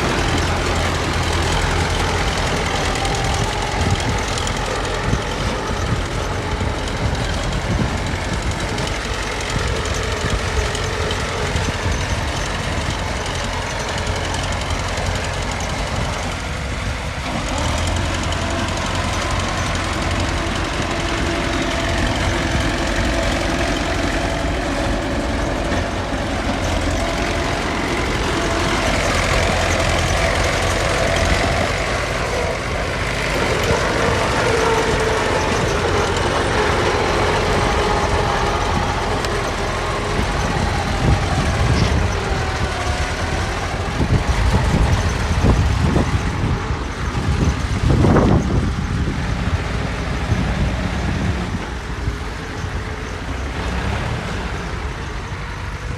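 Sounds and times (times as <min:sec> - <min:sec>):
heavy machinery diesel engines: 0:00.0 - 0:55.9.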